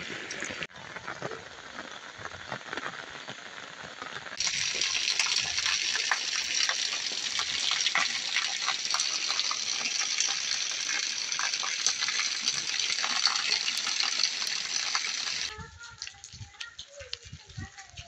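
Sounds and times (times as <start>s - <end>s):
heavy rain on brick paving: 0.0s - 15.5s.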